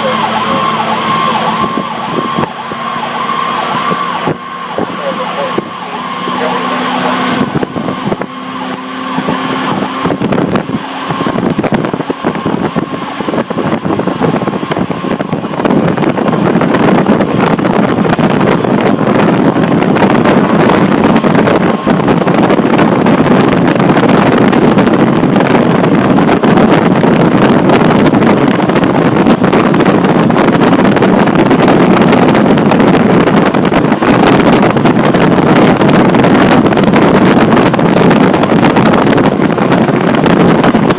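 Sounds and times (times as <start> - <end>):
road noise: 0.0 - 40.9
truck engine: 0.0 - 40.9.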